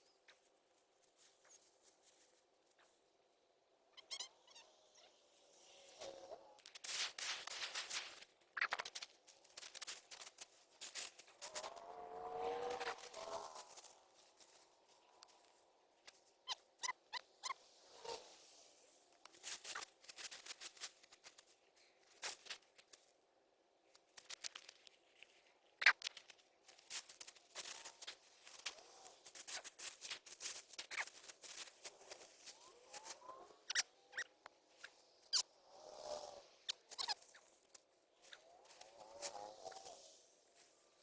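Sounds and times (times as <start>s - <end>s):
dry plants and soil rustling: 0.0s - 41.0s.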